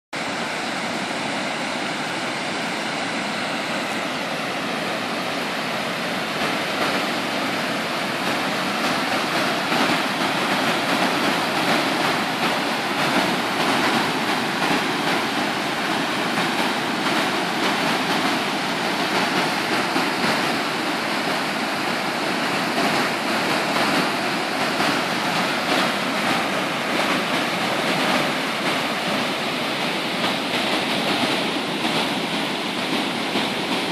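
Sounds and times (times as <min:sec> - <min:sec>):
river rushing over weir: 0:00.2 - 0:33.9.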